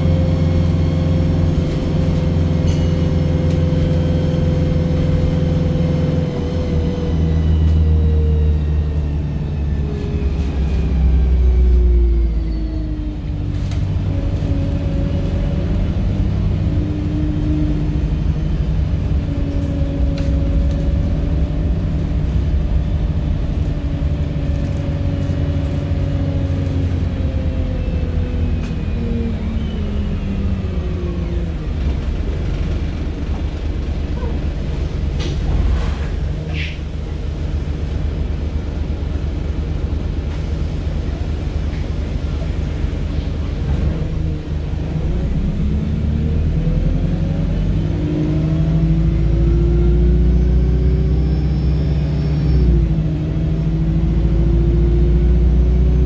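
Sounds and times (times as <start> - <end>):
bus drive whine: 0.0 - 56.0
low engine rumble: 0.0 - 56.0.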